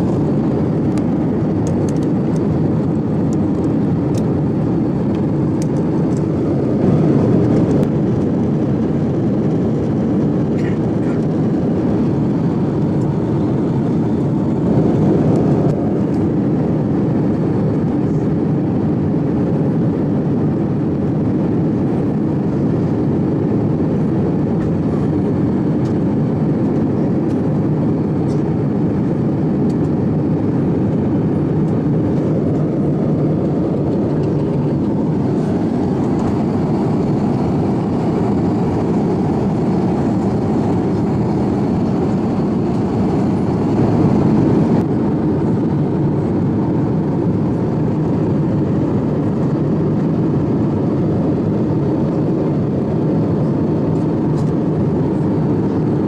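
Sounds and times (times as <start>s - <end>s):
jet engines low rumble in cabin: 0.0s - 56.0s.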